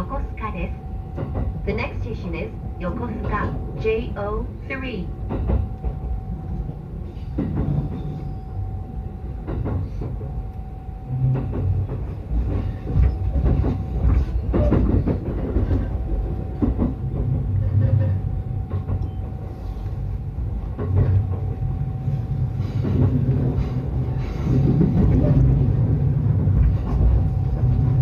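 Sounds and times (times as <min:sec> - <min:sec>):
train rumbling along track: 0:00.0 - 0:28.0.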